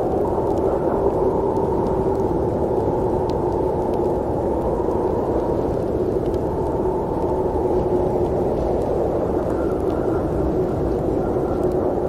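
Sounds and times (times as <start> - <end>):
snowstorm wind rushing: 0.0 - 12.0.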